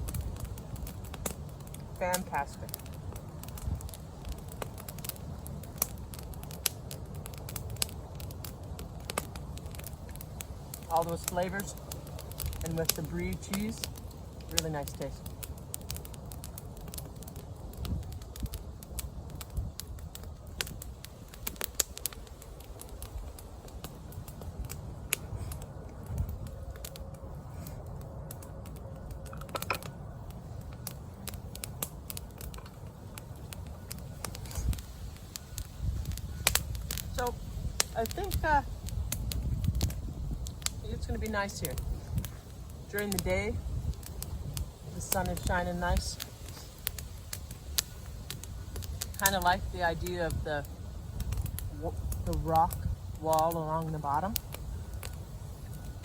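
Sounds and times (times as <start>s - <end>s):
campfire crackling and popping: 0.0s - 56.0s
steady low rumble: 0.0s - 56.0s.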